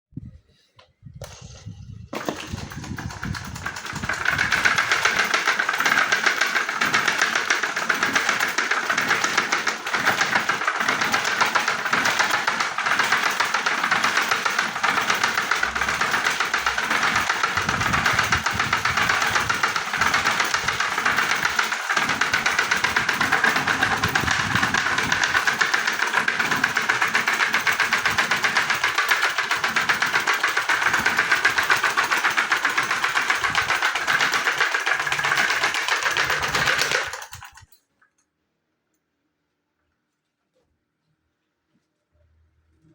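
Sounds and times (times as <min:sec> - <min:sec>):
electric fan rattling: 0:01.2 - 0:37.8.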